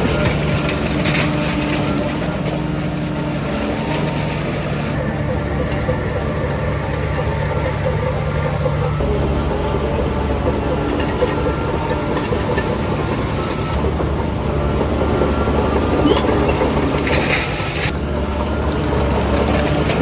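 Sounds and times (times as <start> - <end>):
bulldozer diesel engine: 0.0 - 20.0
steel tracks clanking: 0.0 - 20.0.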